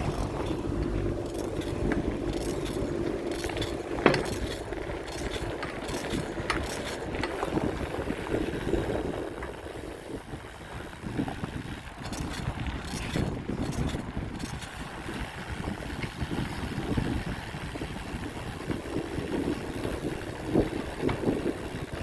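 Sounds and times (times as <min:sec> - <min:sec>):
bicycle clicking and rattling: 0:00.0 - 0:22.0
sharp bicycle clack: 0:00.0 - 0:22.0.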